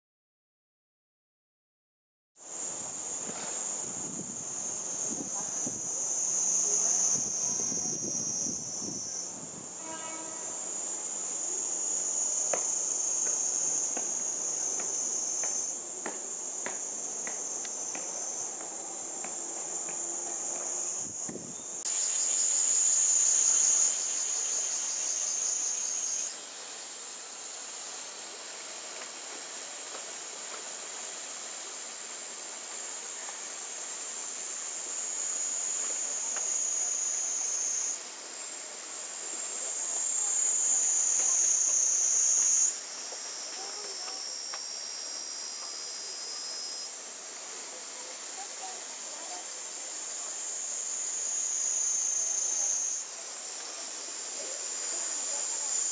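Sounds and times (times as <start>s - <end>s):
cicadas buzzing: 2.4s - 55.9s.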